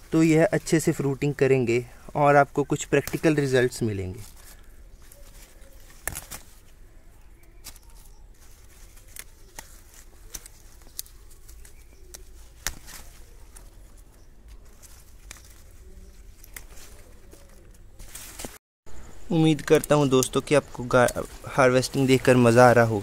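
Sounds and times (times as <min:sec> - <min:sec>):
leaves and stems rustling: 0:00.0 - 0:23.0.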